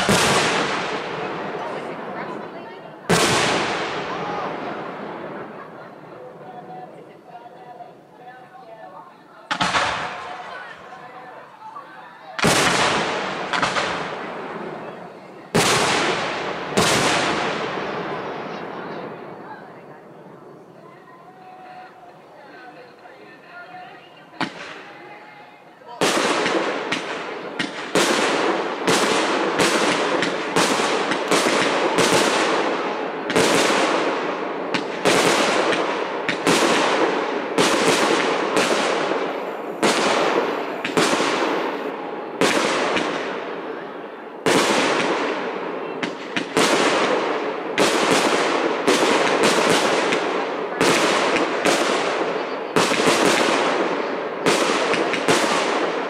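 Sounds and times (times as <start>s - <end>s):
fireworks booming with echo: 0.0s - 7.9s, 9.4s - 11.7s, 12.3s - 22.9s, 23.8s - 56.0s.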